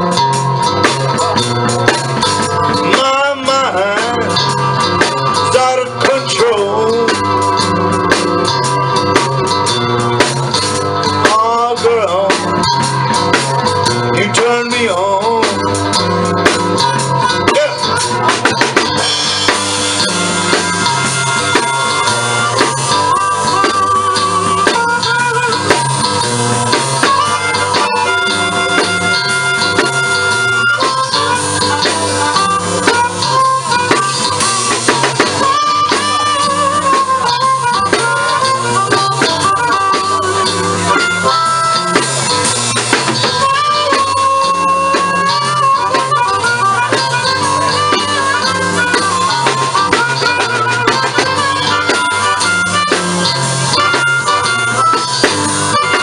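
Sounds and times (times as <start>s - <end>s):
bass line: 0.0s - 56.0s
drum kit steady beat: 0.0s - 56.0s
wavering lead solo notes: 0.0s - 56.0s.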